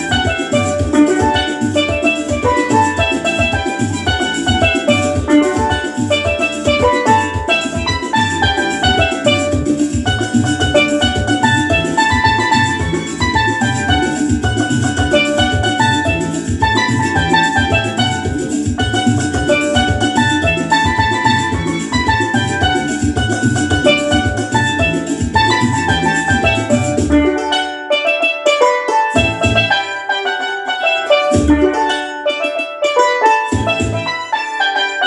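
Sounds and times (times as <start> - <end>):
drums and bass beat: 0.0 - 34.9
steelpans playing melody: 0.0 - 35.0.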